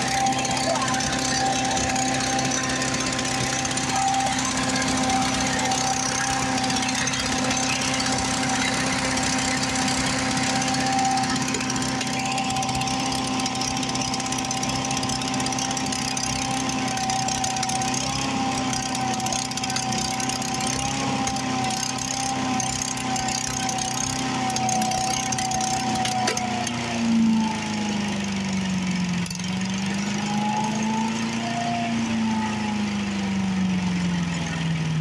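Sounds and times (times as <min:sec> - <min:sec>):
small gasoline engine running: 0:00.0 - 0:35.0.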